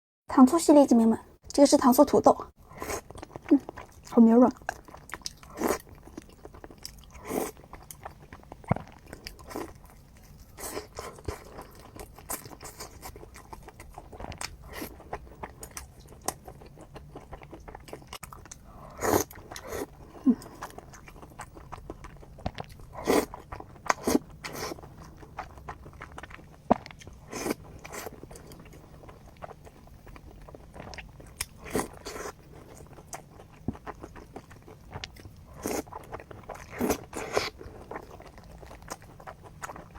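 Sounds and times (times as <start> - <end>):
person chewing food: 2.6 - 39.9.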